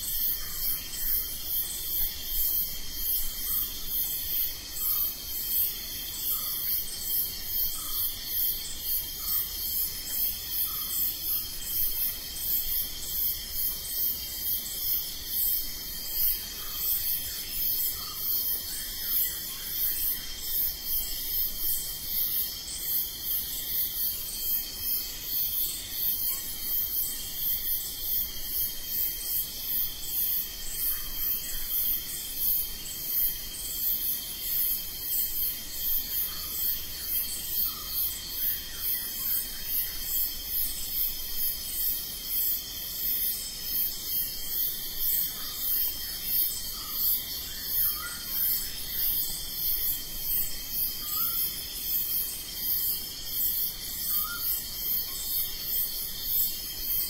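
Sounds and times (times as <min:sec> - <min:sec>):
crickets chirping: 0:00.0 - 0:57.0
high-pitched insect trill: 0:00.0 - 0:57.0.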